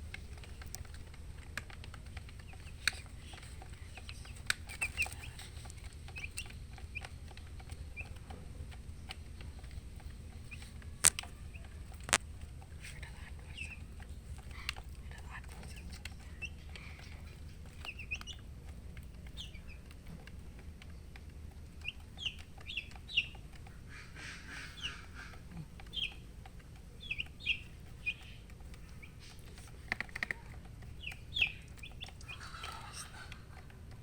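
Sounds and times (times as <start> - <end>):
baby chicks peeping: 0.0 - 34.0.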